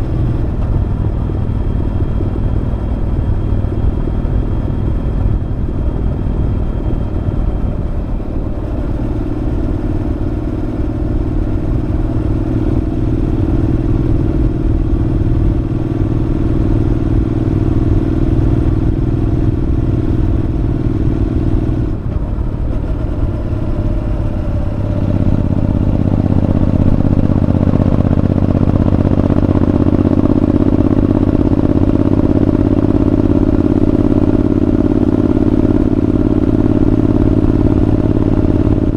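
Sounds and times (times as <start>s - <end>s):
motorcycle engine exhaust: 0.0s - 38.9s.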